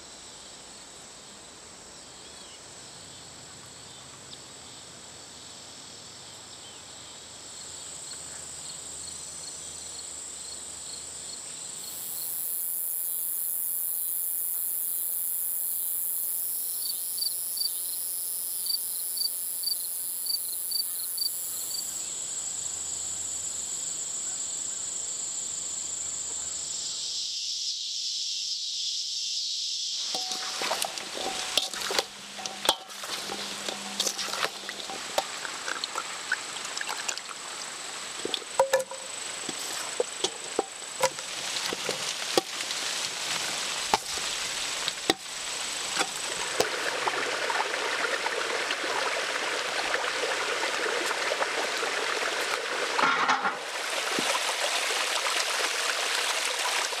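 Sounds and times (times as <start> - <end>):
insects chirping and buzzing: 0.0 - 49.4.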